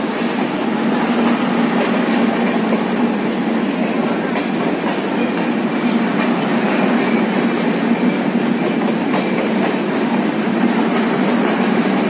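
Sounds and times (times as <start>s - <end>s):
rail joint clicks: 0.0s - 12.0s
train wheels rumbling on rail: 0.0s - 12.0s.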